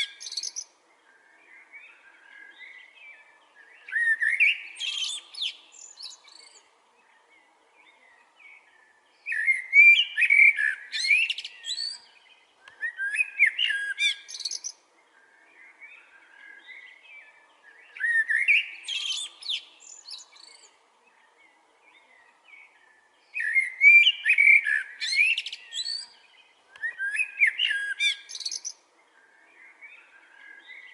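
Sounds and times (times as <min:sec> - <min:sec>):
soft bird chirps: 0:00.0 - 0:30.9
songbird singing: 0:00.0 - 0:30.9.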